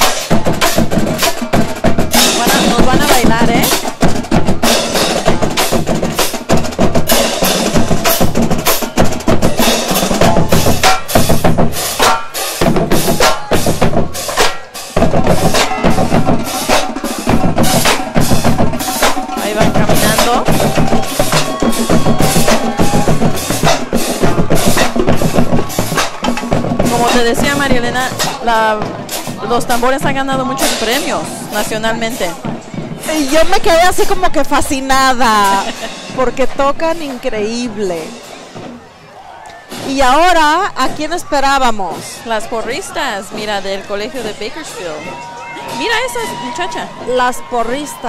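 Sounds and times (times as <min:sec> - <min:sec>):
bass drums: 0:00.0 - 0:38.8, 0:39.7 - 0:48.0
snare drums: 0:00.0 - 0:48.0.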